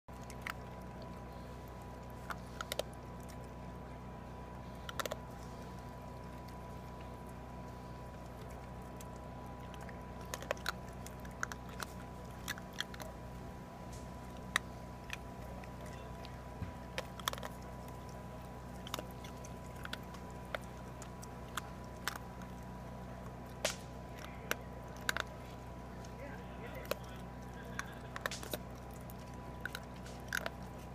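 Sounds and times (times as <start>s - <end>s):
raccoons crunching dry kibble: 0.1s - 30.9s.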